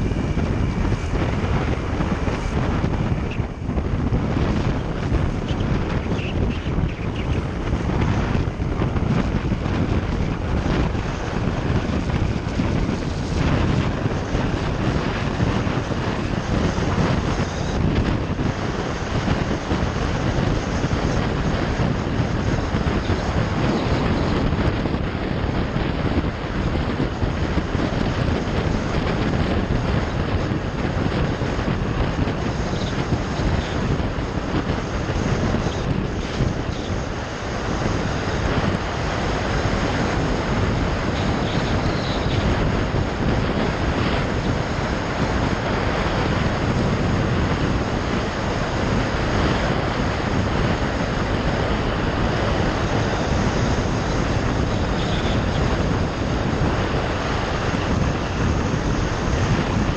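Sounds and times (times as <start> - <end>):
motorcycle engine running: 0.0 - 59.9
wind rush over microphone: 0.0 - 59.9.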